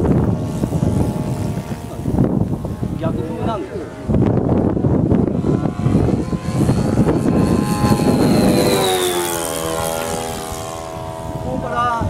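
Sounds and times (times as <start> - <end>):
model airplane motor passing: 0.0 - 12.0
rough rushing noise: 0.0 - 12.0.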